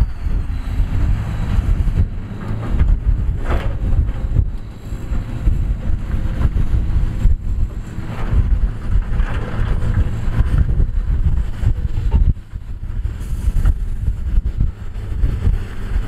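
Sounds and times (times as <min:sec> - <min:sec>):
diesel truck engine running: 0:00.0 - 0:16.0
wind buffeting microphone: 0:00.0 - 0:16.0.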